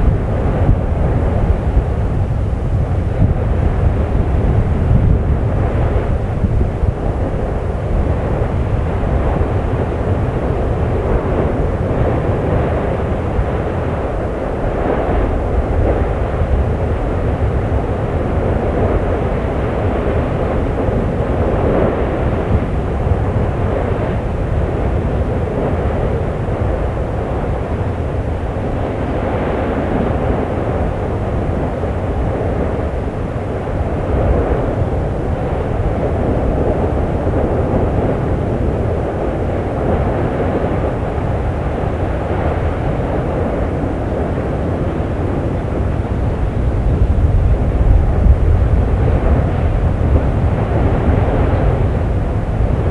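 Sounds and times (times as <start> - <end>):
volcano vent deep rushing rumble: 0.0 - 52.9.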